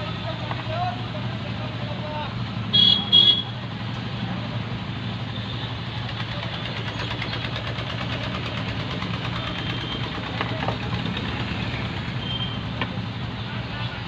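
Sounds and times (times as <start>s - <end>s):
street traffic: 0.0s - 14.0s
vehicle engine idling: 0.0s - 14.0s.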